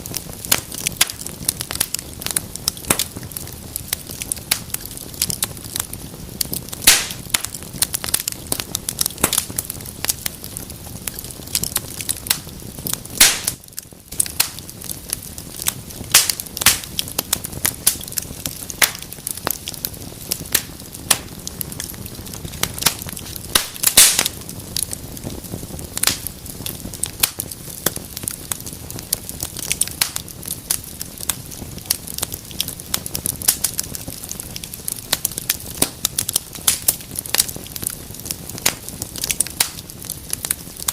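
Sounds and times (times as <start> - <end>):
wood fire crackling: 0.0 - 40.9
sharp pops and snaps: 0.4 - 10.4, 11.0 - 25.4, 26.0 - 40.9.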